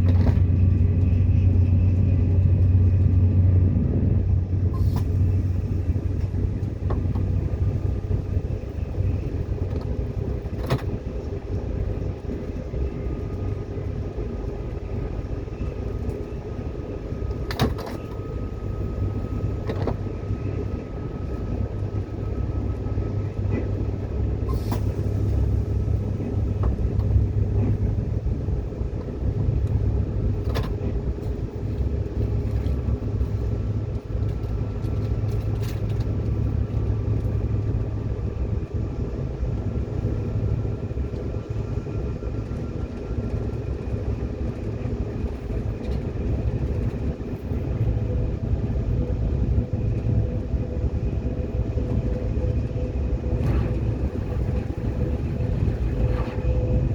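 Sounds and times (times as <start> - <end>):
train running rumble: 0.0 - 56.9.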